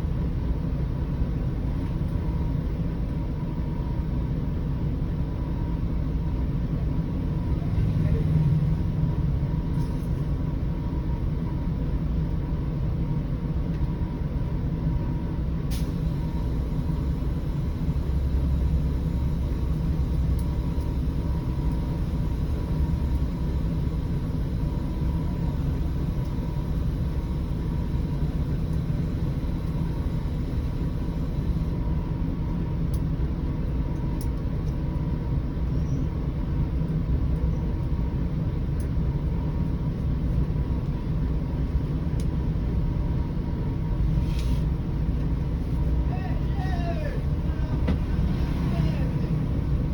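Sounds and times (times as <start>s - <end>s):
bus diesel engine droning: 0.0s - 49.9s.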